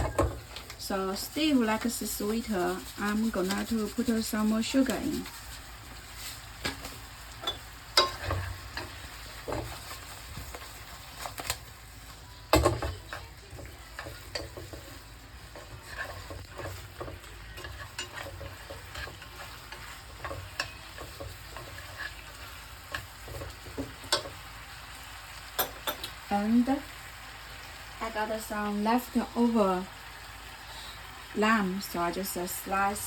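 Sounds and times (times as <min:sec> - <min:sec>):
chicken wings sizzling in pan: 0:00.0 - 0:33.0.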